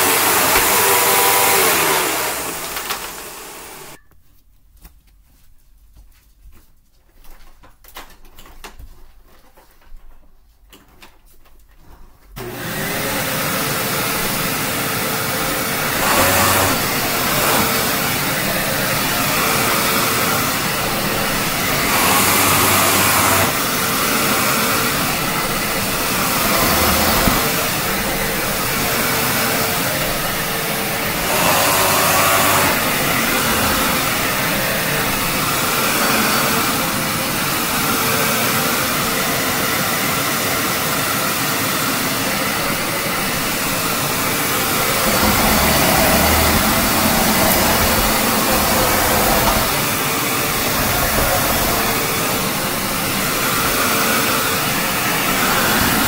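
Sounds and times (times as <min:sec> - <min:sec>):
upright vacuum cleaner running: 0:00.0 - 0:04.0, 0:12.4 - 0:56.0.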